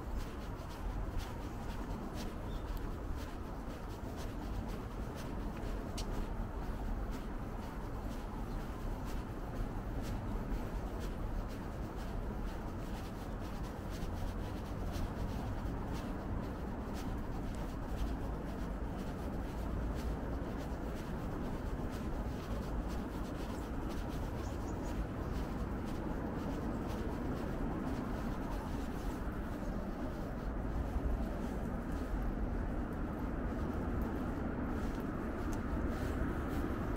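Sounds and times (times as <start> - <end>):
faint clicks and scuffs: 0.0 - 36.9
low street rumble: 0.0 - 36.9.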